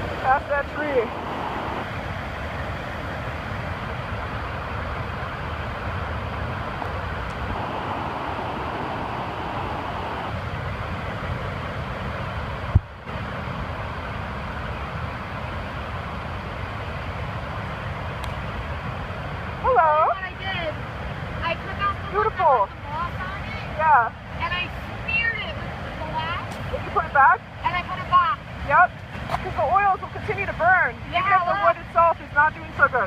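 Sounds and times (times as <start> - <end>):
waterfall rushing: 0.0 - 28.7.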